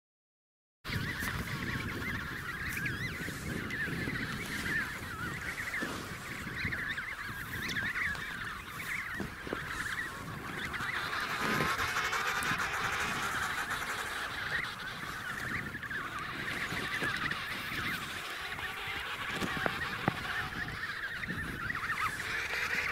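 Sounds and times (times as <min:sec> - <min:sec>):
penguins warbling and honking: 0:00.9 - 0:22.9.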